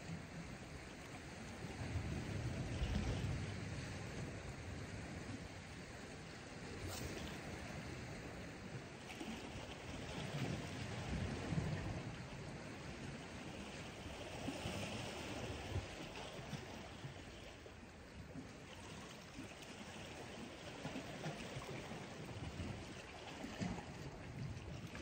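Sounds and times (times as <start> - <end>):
small waves lapping on rocks: 0.0 - 25.0
wind rumbling on microphone: 0.0 - 25.0.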